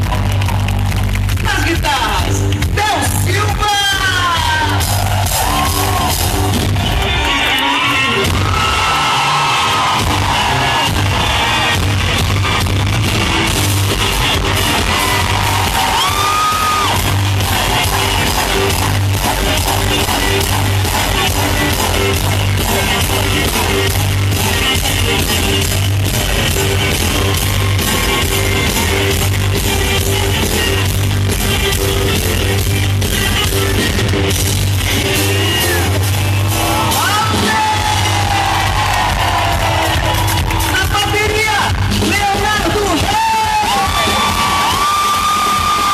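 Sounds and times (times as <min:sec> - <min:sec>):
steady bass beat: 0:00.0 - 0:07.2, 0:10.0 - 0:44.6
crowd yelling and singing along: 0:00.0 - 0:45.9
live pop-rock band: 0:00.0 - 0:45.9.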